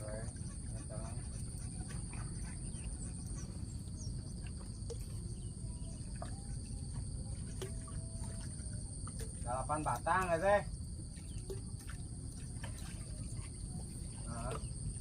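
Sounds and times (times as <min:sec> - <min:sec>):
insects trilling: 0:00.0 - 0:15.0
low outdoor rumble: 0:00.0 - 0:15.0.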